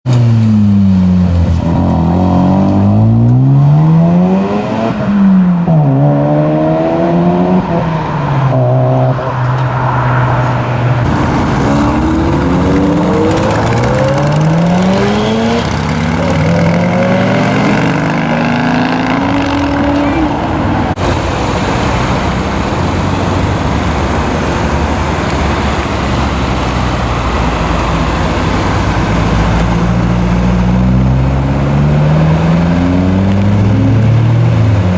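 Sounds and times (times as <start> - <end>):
car engines revving and accelerating: 0.0 - 34.9.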